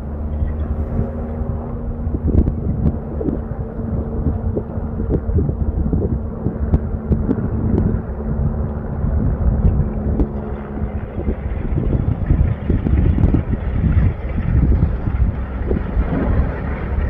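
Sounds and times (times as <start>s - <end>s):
lava fountain rumbling: 0.0s - 17.0s.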